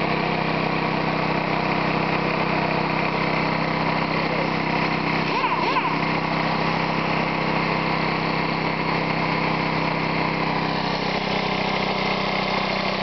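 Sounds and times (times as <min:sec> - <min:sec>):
lawnmower engine running under load: 0:00.0 - 0:13.0.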